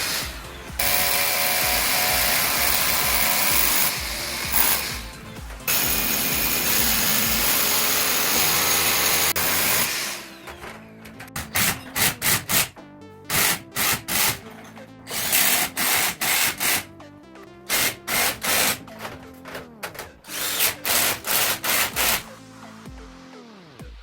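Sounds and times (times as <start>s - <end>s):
power drill bursts: 0.0s - 10.8s, 11.4s - 12.7s, 13.3s - 16.9s, 17.7s - 18.9s, 20.0s - 22.3s
background music: 0.0s - 24.0s.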